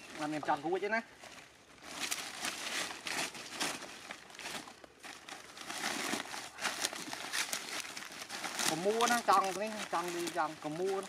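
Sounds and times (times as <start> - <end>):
leaves rustling and crunching: 0.0 - 11.0.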